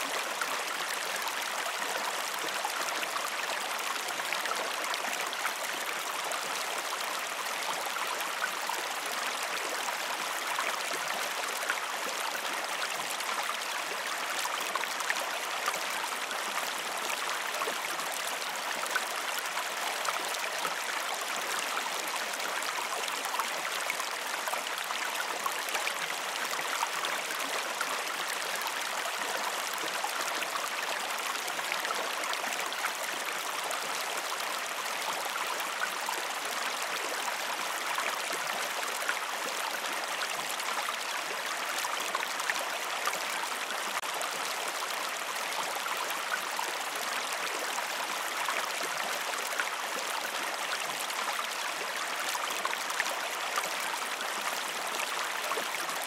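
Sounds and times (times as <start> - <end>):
creek water babbling: 0.0 - 56.0.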